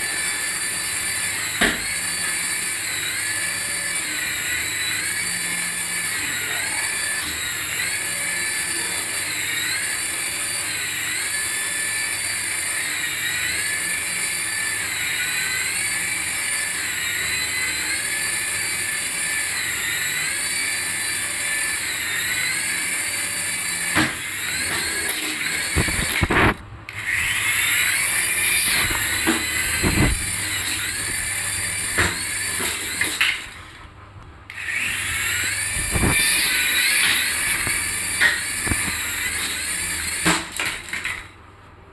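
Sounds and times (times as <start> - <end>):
toy motor whine: 0.0 - 33.8, 34.5 - 41.4.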